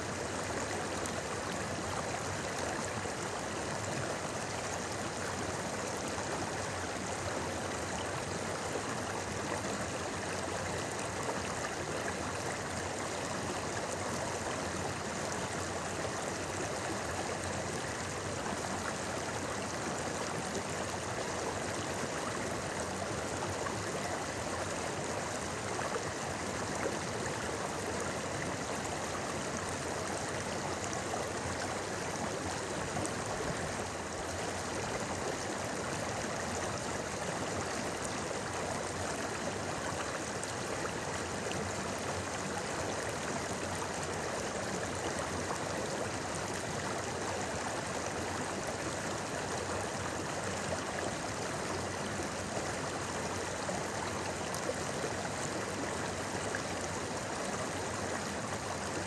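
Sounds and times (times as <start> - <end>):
river water babbling: 0.0 - 59.0.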